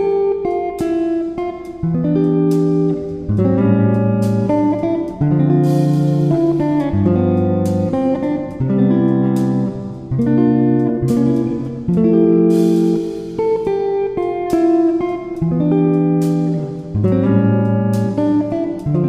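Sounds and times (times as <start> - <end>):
plucked-string instrumental music: 0.0 - 19.0.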